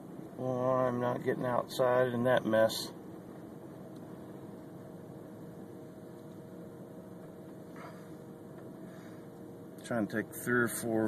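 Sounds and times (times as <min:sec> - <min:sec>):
faint even hum: 0:00.0 - 0:11.0.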